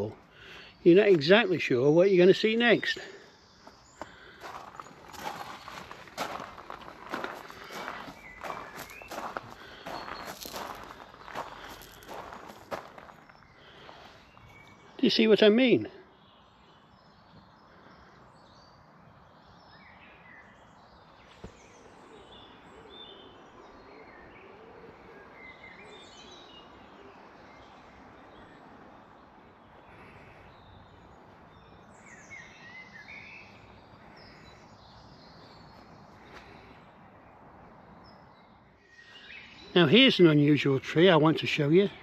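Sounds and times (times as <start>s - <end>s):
small birds singing and chirping: 0.0s - 42.0s.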